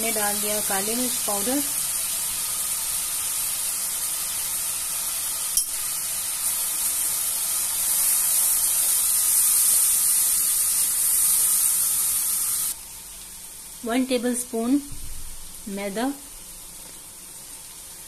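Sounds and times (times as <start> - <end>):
oil sizzling in a wok: 0.0 - 18.0.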